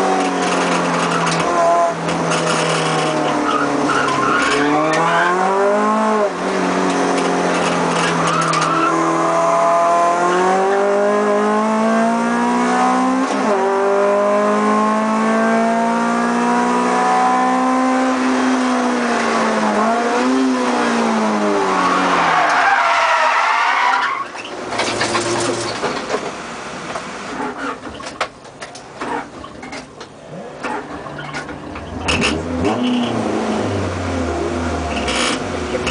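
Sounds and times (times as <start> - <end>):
car engine at high revs: 0.0 - 27.9, 28.9 - 35.9.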